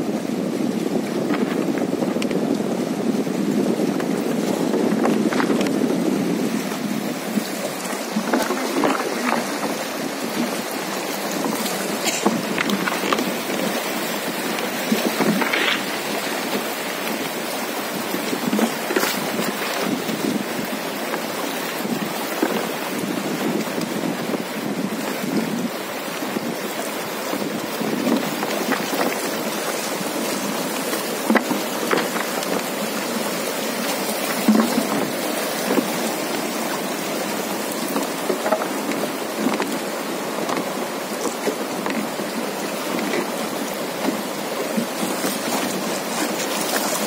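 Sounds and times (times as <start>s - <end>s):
river water rushing: 0.0s - 47.0s
water splashing against raft: 0.0s - 47.0s.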